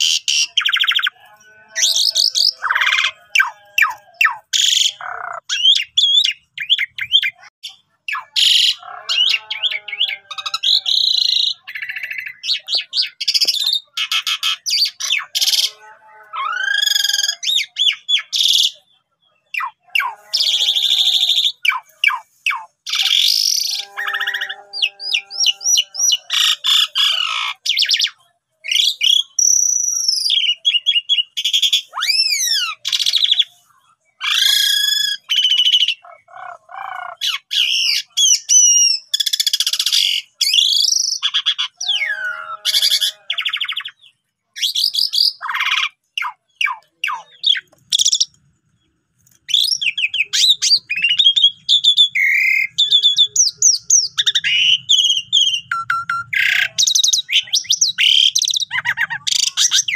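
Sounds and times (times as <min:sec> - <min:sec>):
starling singing: 0:00.0 - 0:33.6, 0:34.2 - 0:48.4, 0:49.4 - 0:59.9.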